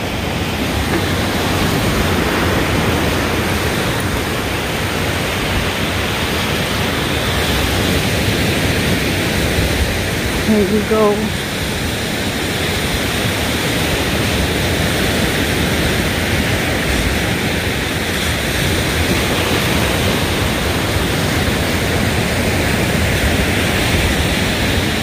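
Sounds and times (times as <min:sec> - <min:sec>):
surf rushing on shore: 0:00.0 - 0:25.0
wind buffeting microphone: 0:00.0 - 0:25.0.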